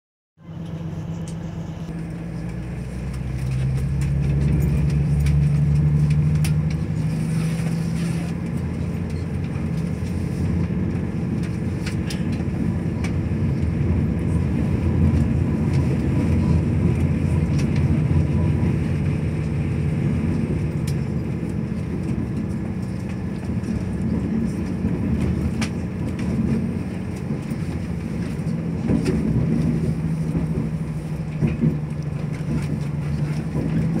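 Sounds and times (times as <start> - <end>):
diesel train engine: 0.4 - 34.0
wheels rumbling on rails: 0.4 - 34.0.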